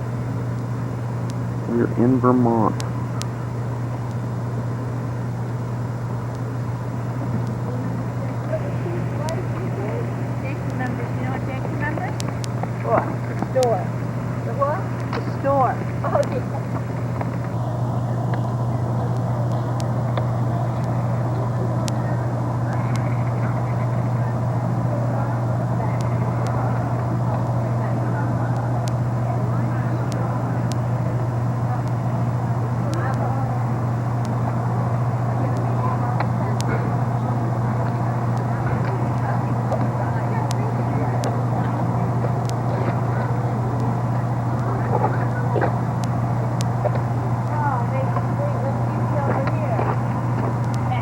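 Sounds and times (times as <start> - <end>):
faint clicks: 2.7 - 4.4, 5.1 - 51.0.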